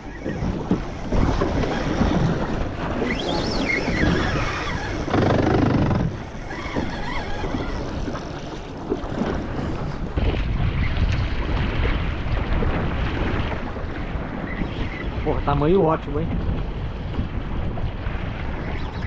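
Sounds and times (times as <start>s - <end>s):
water washing around hull: 0.0s - 19.0s
wind buffeting microphone: 0.0s - 19.0s.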